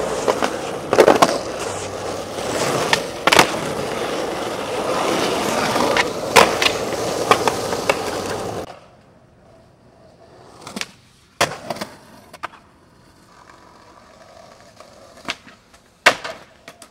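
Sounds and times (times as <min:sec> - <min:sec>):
skateboard clacking on ground: 0:00.0 - 0:16.9
skateboard wheels rolling on asphalt: 0:00.0 - 0:16.9.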